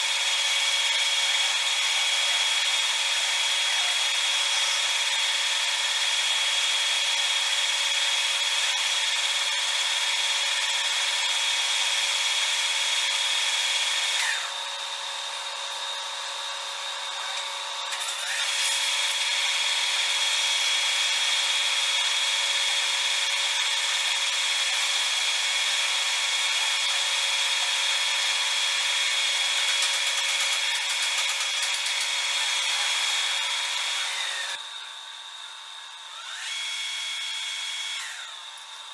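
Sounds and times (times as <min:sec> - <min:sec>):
metal lathe cutting: 0:00.0 - 0:38.9.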